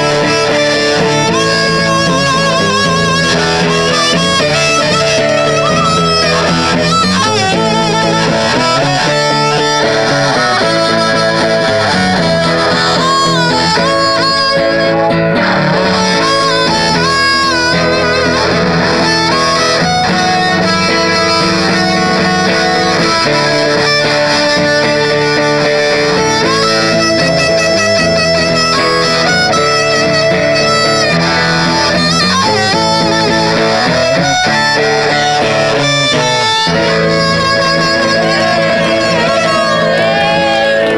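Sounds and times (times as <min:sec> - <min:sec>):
amplified blues harmonica: 0:00.0 - 0:40.9
guitar accompaniment: 0:00.0 - 0:40.9.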